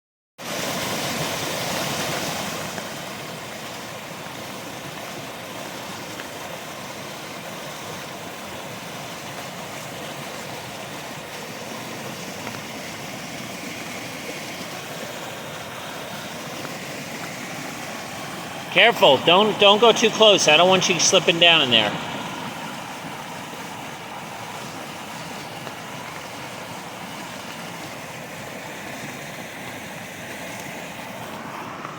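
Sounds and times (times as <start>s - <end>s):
rushing stormwater: 0.4s - 31.9s.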